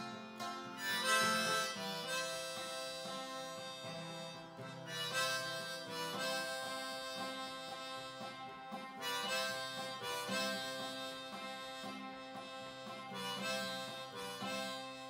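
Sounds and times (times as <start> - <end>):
harmonica playing: 0.0 - 15.0
strummed acoustic guitar: 0.0 - 15.0.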